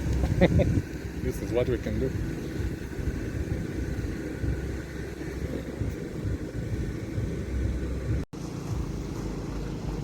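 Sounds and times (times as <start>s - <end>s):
boat motor rumble: 0.0s - 10.0s.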